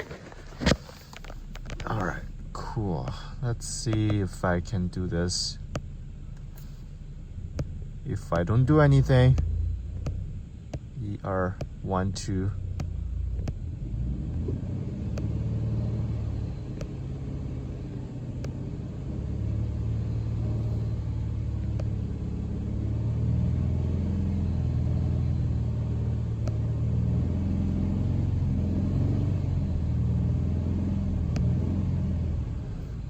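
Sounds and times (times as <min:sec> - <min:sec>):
car engine running: 0:00.0 - 0:33.0.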